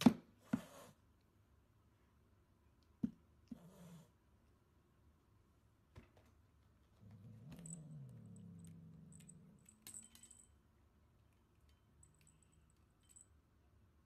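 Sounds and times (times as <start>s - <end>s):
low steady hum: 0.3s - 14.0s.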